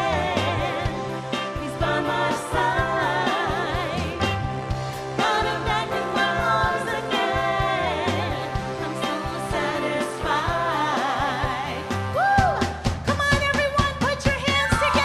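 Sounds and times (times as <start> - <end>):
soul band with bass and drums: 0.0 - 15.0.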